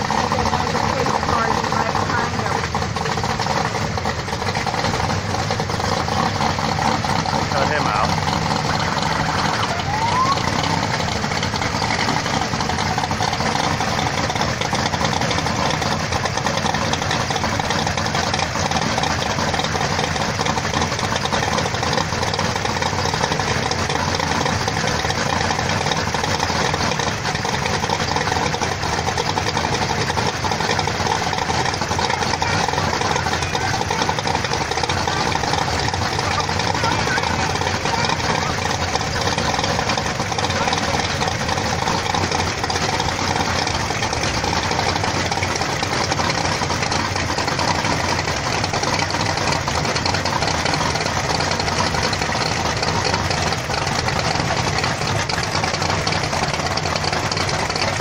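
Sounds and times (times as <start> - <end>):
car engine idling loudly: 0.0 - 58.0
other car engines running: 0.0 - 58.0.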